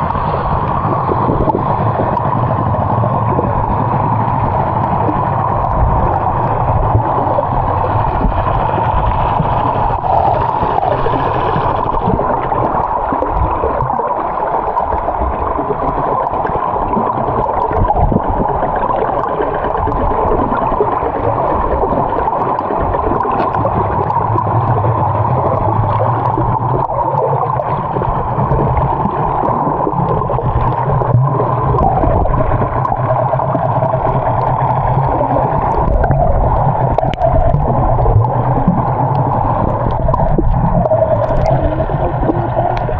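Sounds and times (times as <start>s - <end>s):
boat motor running: 0.0s - 42.9s
rushing water: 0.0s - 42.9s.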